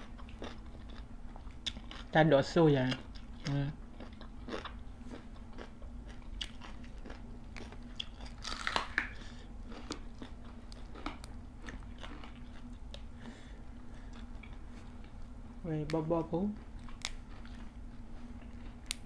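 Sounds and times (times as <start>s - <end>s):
chewing raw vegetables: 0.0s - 19.0s
faint steady hum: 0.0s - 19.0s.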